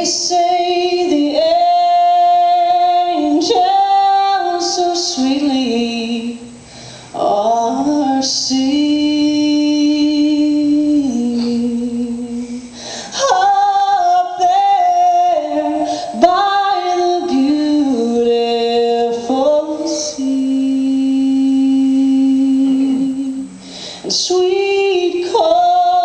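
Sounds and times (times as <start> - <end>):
woman singing a slow hymn: 0.0 - 26.0.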